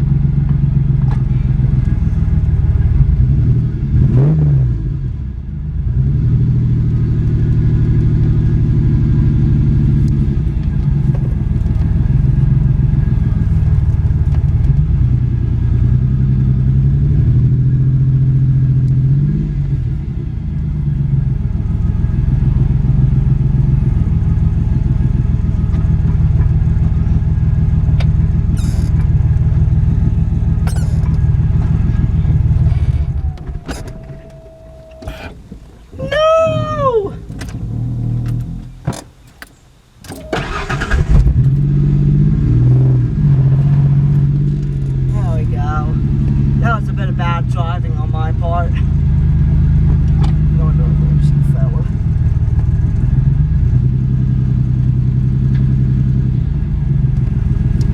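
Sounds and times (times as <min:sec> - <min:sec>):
car engine exhaust rumble: 0:00.0 - 0:57.9.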